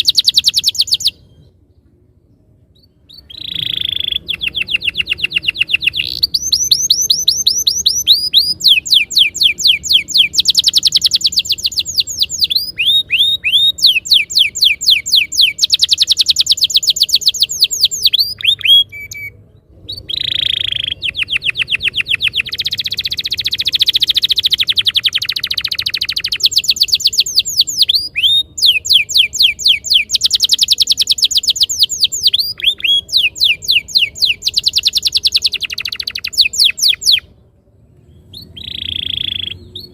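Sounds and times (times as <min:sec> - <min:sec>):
canary singing trills: 0:00.0 - 0:01.6, 0:02.7 - 0:37.4, 0:38.0 - 0:39.9.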